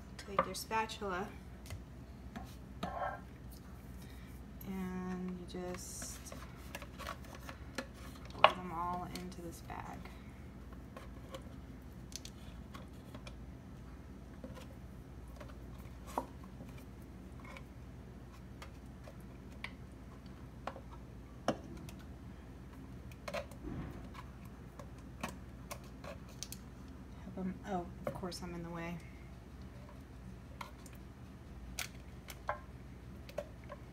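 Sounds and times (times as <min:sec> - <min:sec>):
low room hum: 0:00.0 - 0:33.9.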